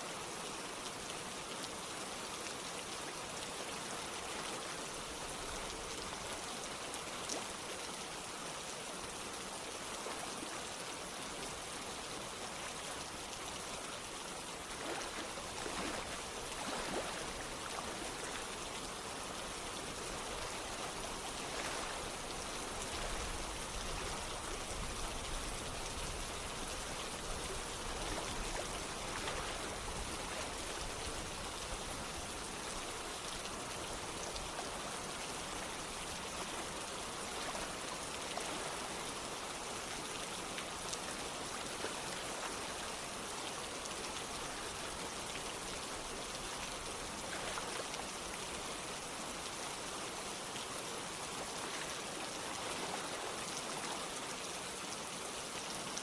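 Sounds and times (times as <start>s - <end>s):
running water: 0.0s - 56.0s
steady rain: 0.0s - 56.0s.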